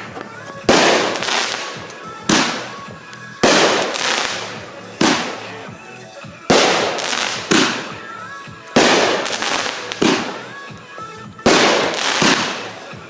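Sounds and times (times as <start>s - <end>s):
firework bangs with crackling hiss: 0.0s - 13.0s.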